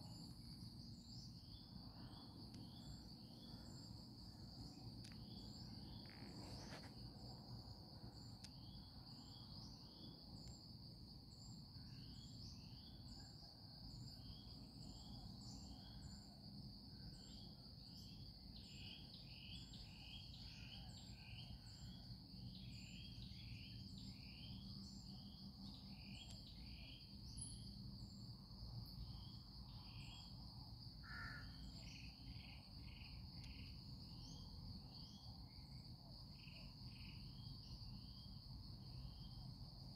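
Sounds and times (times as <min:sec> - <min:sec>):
insect chirps: 0:00.0 - 0:39.9.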